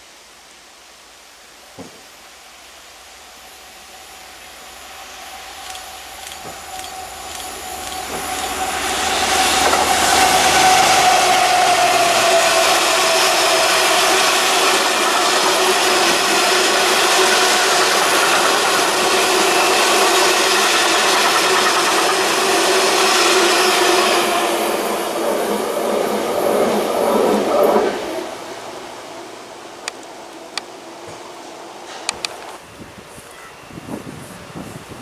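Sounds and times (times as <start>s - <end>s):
freight train rolling past: 2.7s - 35.0s.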